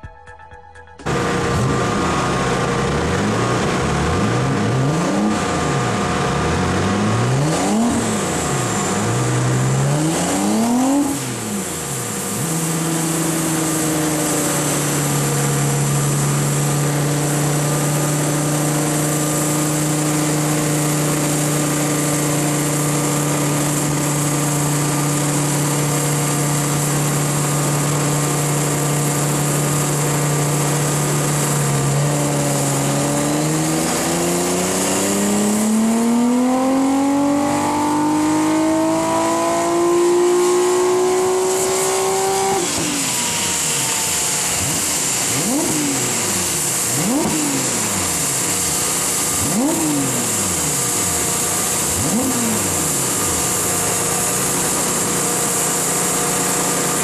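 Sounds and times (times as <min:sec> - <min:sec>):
car engine revving: 0:01.0 - 0:57.0.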